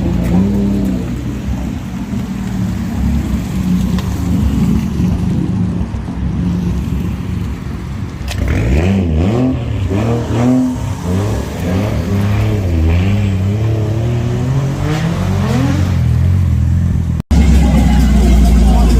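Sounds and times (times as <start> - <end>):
car engine running and revving: 0.0 - 18.9.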